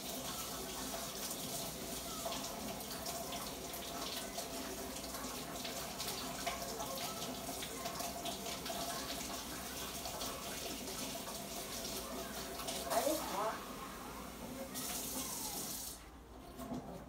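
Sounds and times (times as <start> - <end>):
water running from tap: 0.0 - 16.0.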